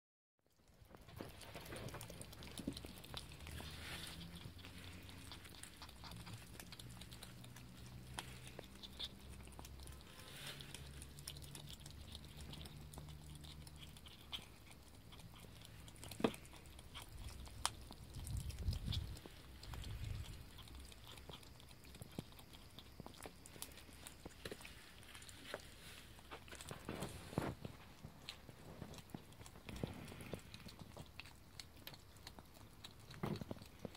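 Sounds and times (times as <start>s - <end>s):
animals crunching bones: 0.4s - 33.9s
faint low hum: 0.4s - 33.9s.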